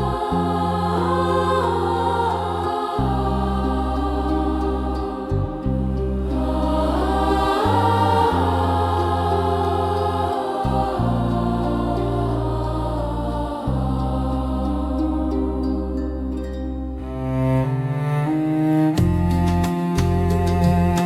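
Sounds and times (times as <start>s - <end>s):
choir singing sustained notes: 0.0s - 21.0s
low bass notes: 0.0s - 21.0s.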